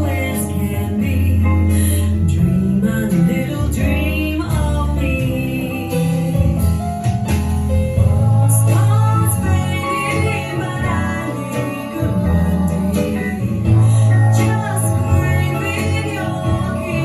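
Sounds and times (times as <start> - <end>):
bass line: 0.0 - 17.0
song with singing voice: 0.0 - 17.0.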